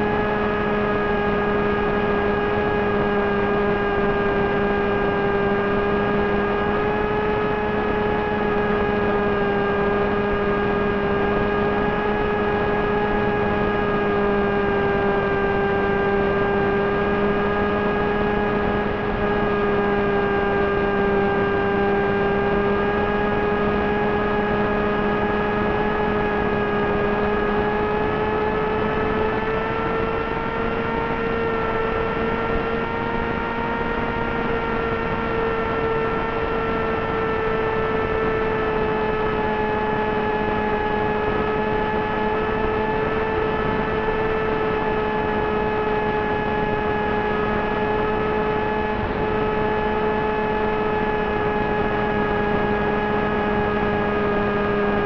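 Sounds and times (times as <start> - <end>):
electric motor propeller hum and whine: 0.0 - 55.0.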